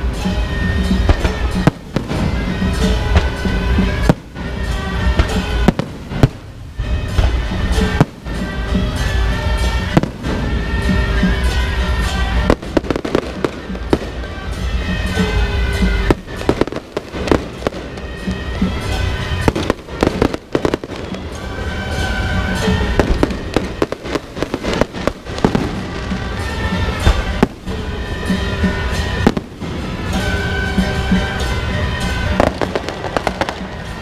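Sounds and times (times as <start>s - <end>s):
fireworks bangs and pops: 0.0s - 34.0s
music: 0.0s - 34.0s.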